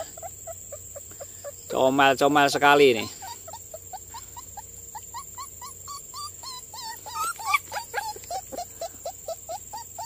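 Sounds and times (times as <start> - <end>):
puppies crying: 0.0 - 10.0.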